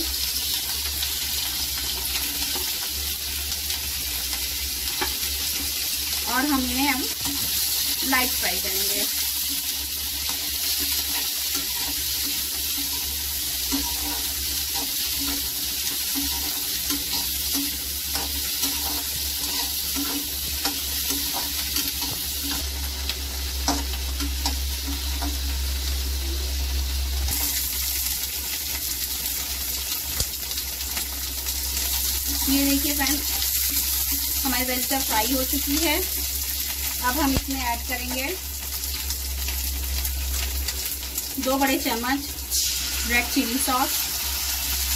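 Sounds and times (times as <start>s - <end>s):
onion sizzling in hot oil: 0.0s - 44.9s.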